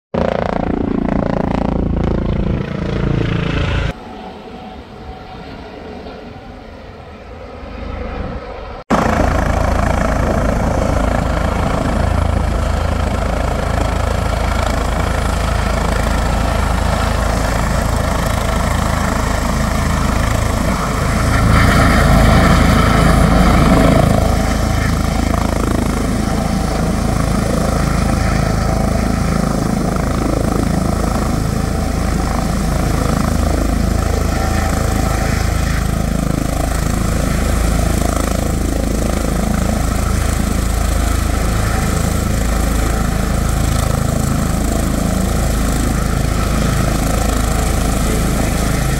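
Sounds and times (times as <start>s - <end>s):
helicopter rotor and turbine noise: 0.1s - 48.9s.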